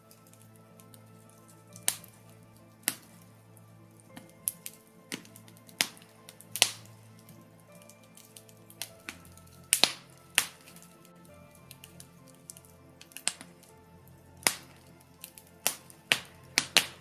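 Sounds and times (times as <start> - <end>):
logs crackling in a fireplace: 0.0 - 17.0.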